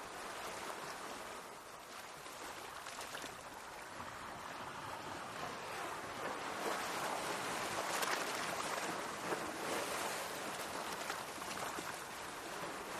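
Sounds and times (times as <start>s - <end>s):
sea waves washing in: 0.0s - 12.9s.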